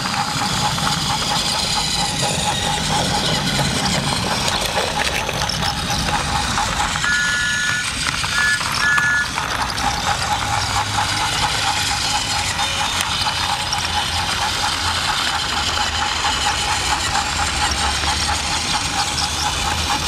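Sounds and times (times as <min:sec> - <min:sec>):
rhythmic clicking: 0:00.0 - 0:20.0
toy train motor whirring: 0:00.0 - 0:20.0.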